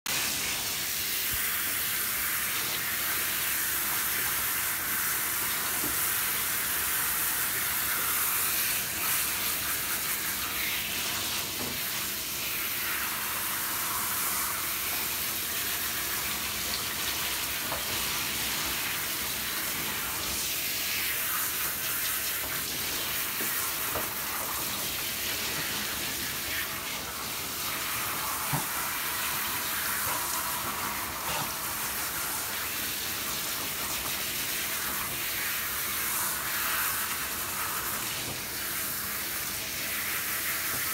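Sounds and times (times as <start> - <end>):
shower head spraying water: 0.1 - 40.9.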